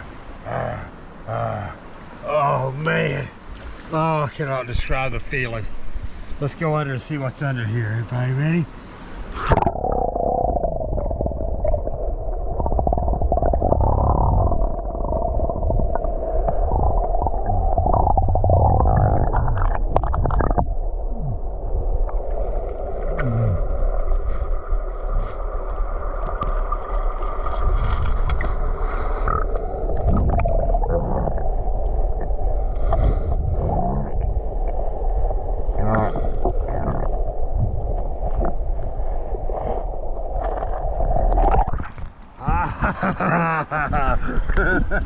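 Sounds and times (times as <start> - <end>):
underwater river rushing: 0.0 - 45.0
water gurgles: 0.0 - 45.0.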